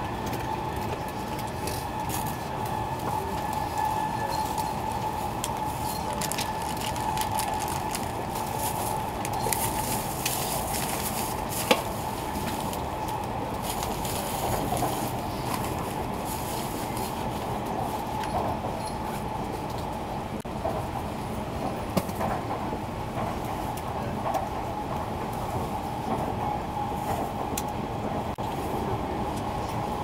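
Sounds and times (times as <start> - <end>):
train cabin rumble: 0.0 - 30.0.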